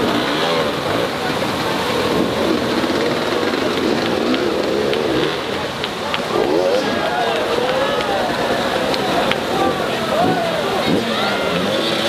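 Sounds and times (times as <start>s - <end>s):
dirt bike engine revving: 0.0s - 12.0s
waterfall rushing: 0.0s - 12.0s.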